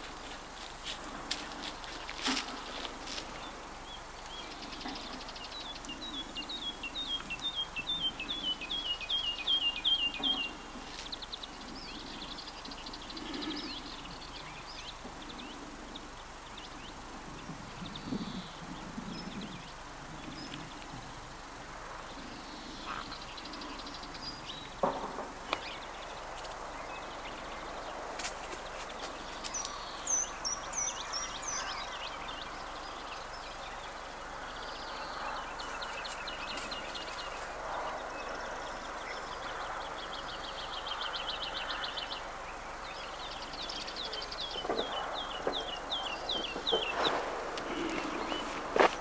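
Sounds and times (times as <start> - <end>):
background hiss: 0.0 - 49.0
wild birds singing and calling: 0.0 - 49.0.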